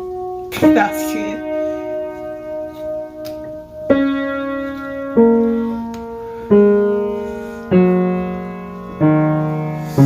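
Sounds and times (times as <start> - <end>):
slow piano notes: 0.0 - 10.0.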